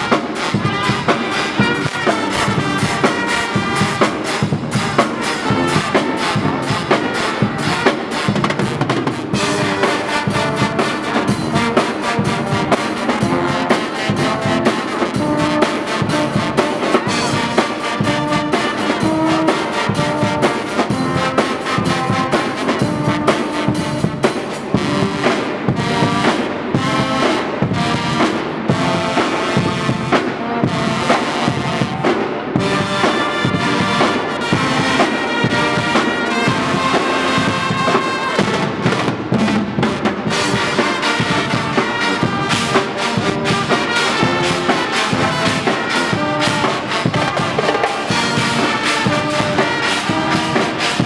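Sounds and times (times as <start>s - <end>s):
brass band playing: 0.0s - 51.0s
drums steady beat: 0.0s - 51.0s.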